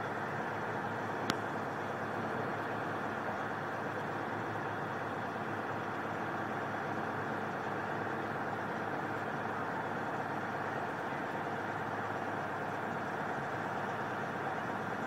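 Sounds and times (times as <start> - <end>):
vehicle engines idling: 0.0 - 15.0.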